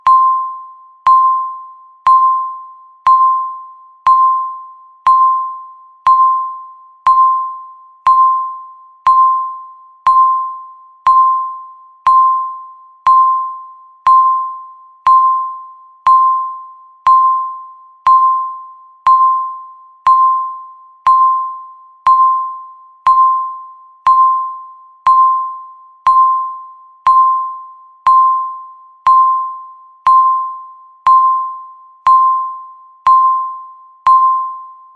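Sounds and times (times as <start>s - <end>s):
electronic timer beeps: 0.0s - 34.9s.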